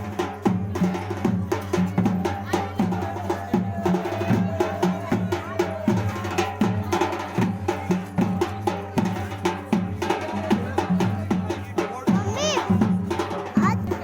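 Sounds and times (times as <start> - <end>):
drums in quick rhythm: 0.0 - 14.0.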